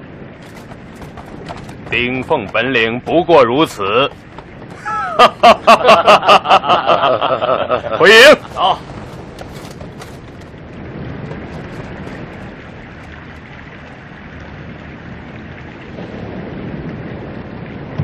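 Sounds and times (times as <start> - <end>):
water around boats: 0.0 - 18.0
wind: 0.0 - 18.0.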